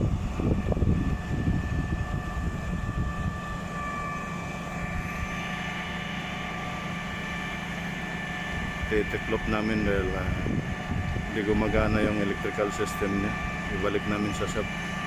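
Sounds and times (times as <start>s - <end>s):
diesel engine running: 0.0s - 15.0s
high whine: 0.0s - 15.0s.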